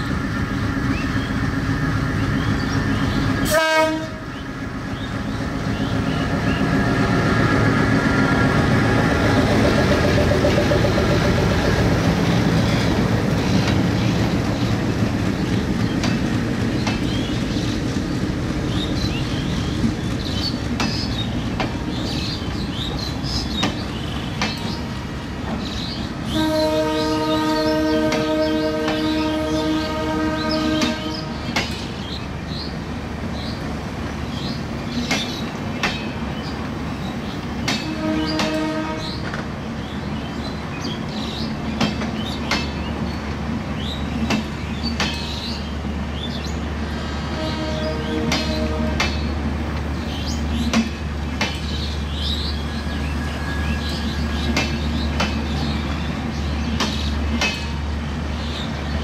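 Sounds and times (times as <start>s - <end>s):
train wheels rumbling: 0.0s - 59.0s
wheels clacking over rail joints: 5.0s - 32.7s, 33.3s - 39.6s, 40.4s - 46.6s, 47.4s - 52.8s, 53.7s - 59.0s.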